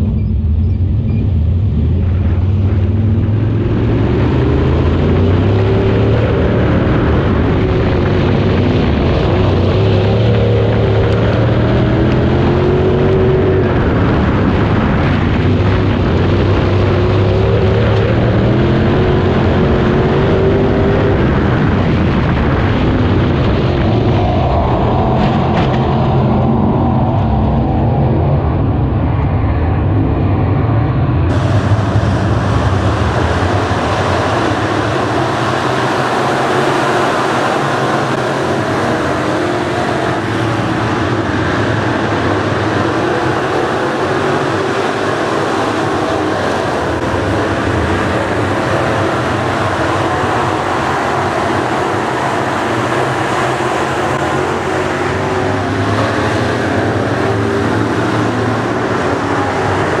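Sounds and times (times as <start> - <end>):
race car engines droning: 0.0 - 60.0.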